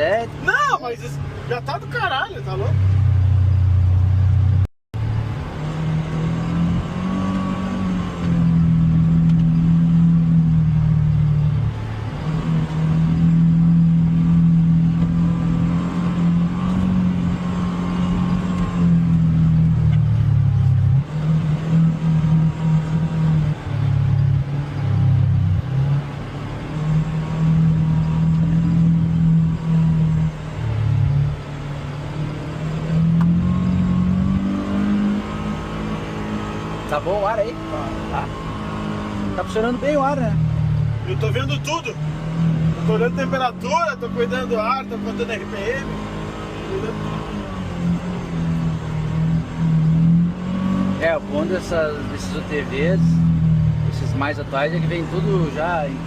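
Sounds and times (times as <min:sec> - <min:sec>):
utility vehicle engine revving: 0:00.0 - 0:56.0.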